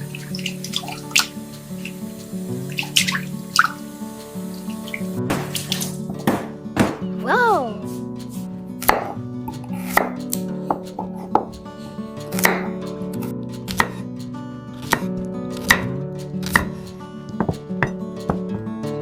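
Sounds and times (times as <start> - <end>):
background music with plucked strings: 0.0 - 19.0.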